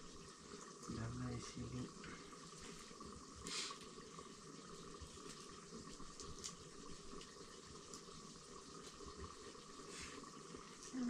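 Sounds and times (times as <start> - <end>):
pot simmering hiss: 0.0 - 11.0.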